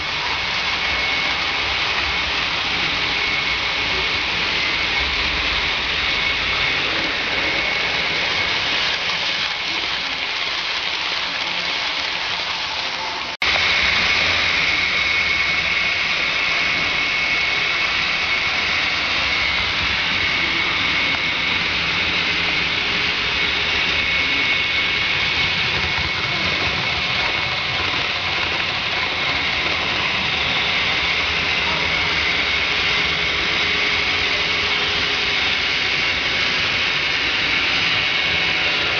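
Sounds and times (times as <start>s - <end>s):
model trains whirring: 0.0s - 38.9s.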